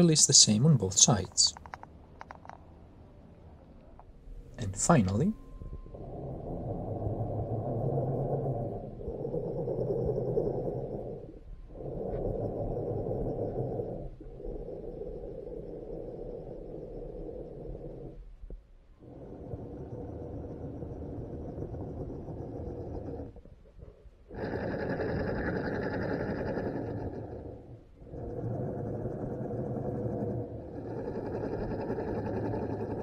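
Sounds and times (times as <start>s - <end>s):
muffled underwater water noise: 3.4s - 33.0s.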